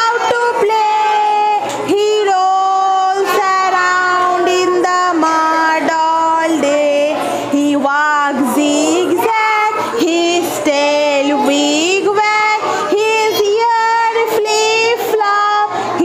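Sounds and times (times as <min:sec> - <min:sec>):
woman and children singing: 0:00.0 - 0:16.0.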